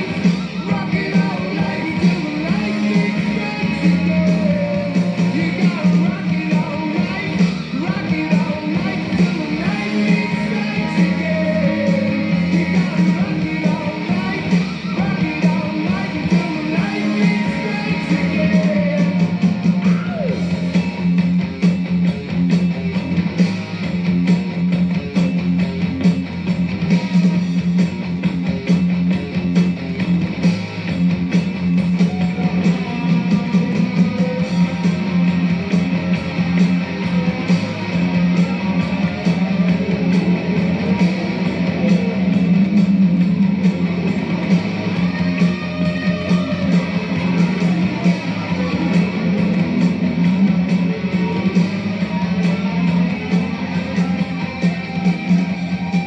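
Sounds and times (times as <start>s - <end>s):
heavy metal electric guitar: 0.0s - 56.0s
steady drum beat: 0.0s - 56.0s.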